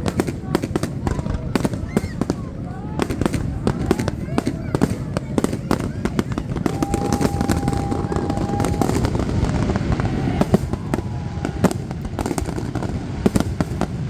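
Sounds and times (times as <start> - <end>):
firework whistle: 0.0 - 14.0
fireworks bangs and crackles: 0.0 - 14.0.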